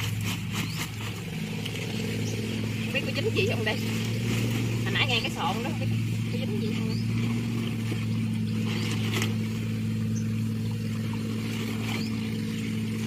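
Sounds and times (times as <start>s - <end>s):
small engine droning: 0.0s - 13.0s
wet net rustling: 0.0s - 13.0s.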